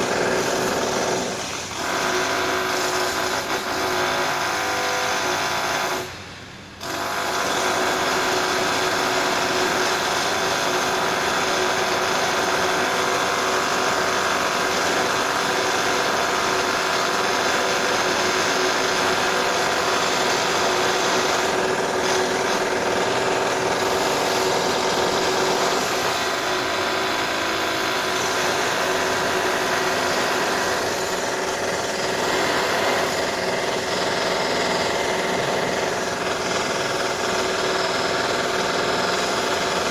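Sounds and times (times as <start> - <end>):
power drill whining: 6.8 - 39.9.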